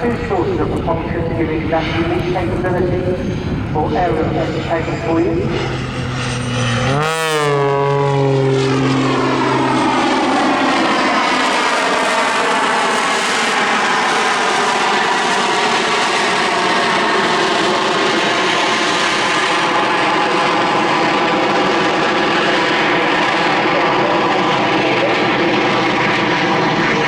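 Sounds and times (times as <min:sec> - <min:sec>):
aircraft engines droning: 0:00.0 - 0:27.0.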